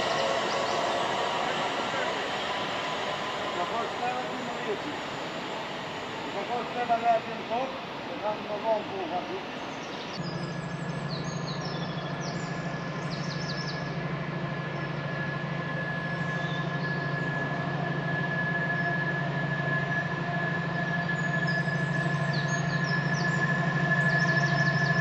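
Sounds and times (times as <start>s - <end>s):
birds chirping: 0.0s - 25.0s
high steady whine: 0.0s - 25.0s
train engine drone: 0.0s - 25.0s.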